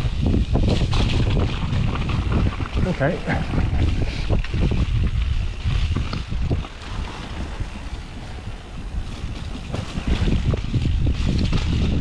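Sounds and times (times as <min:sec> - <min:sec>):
bike knocks and rattles: 0:00.0 - 0:12.0
bike tyres rumbling on dirt: 0:00.0 - 0:12.0
wind noise on microphone: 0:00.0 - 0:12.0.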